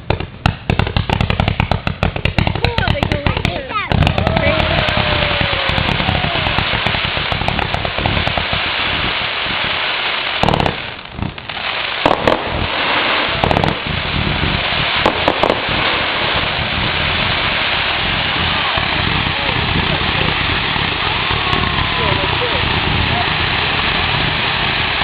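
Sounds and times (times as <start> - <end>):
fireworks crackling: 0.0 - 25.0
loud firework bangs: 0.0 - 25.0
falling firework whistle: 3.9 - 25.0.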